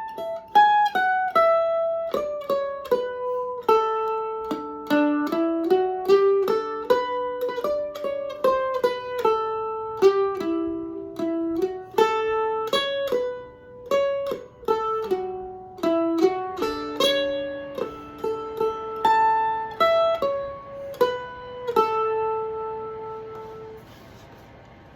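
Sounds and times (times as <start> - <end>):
mandolin picking bluegrass melody: 0.0 - 24.8.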